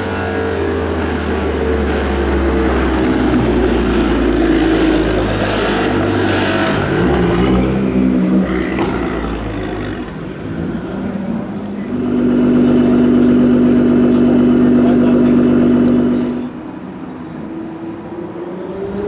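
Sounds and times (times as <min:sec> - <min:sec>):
car exhaust running hard: 0:00.0 - 0:16.6.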